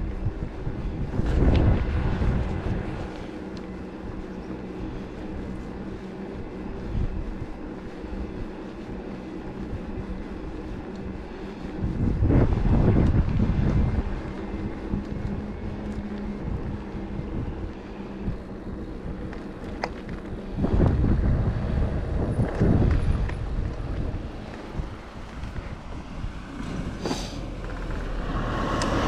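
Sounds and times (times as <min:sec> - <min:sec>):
e-bike riding rumble: 0:00.0 - 0:29.0
steady low hum: 0:00.0 - 0:29.0
wind buffeting microphone: 0:00.0 - 0:29.0.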